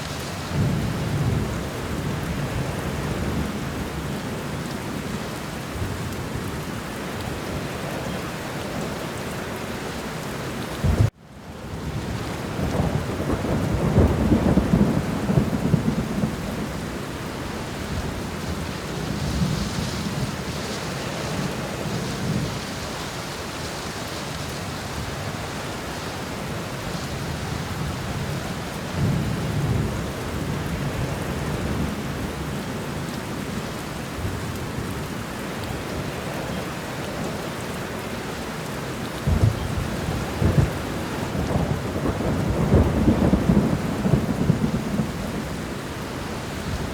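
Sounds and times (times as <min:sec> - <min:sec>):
rolling thunder rumbles: 0:00.0 - 0:05.1, 0:10.8 - 0:37.4, 0:39.1 - 0:46.9
steady rain falling: 0:00.0 - 0:46.9.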